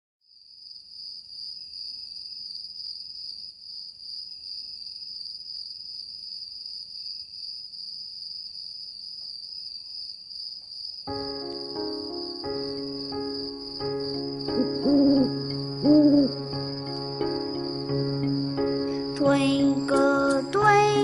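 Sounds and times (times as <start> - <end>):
crickets chirping: 0.3 - 21.0.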